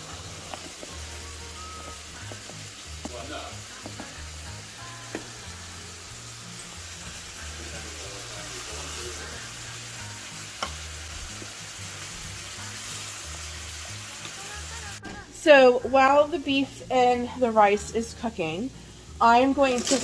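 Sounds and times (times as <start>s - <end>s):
meat sizzling in a pan: 0.0s - 15.1s, 17.6s - 20.0s
faint background music: 0.0s - 20.0s.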